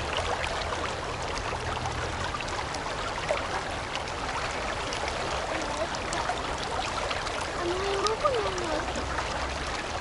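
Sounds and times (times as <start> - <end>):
river flowing over stones: 0.0 - 10.0.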